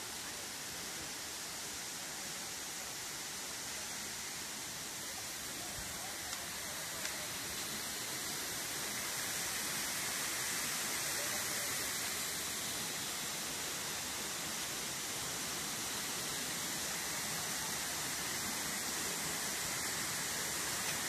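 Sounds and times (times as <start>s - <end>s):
stream and waterfall rushing: 0.0s - 21.0s.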